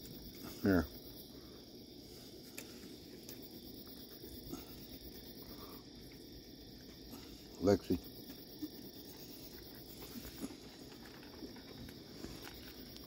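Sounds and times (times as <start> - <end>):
crickets and insects chirring: 0.0 - 13.0.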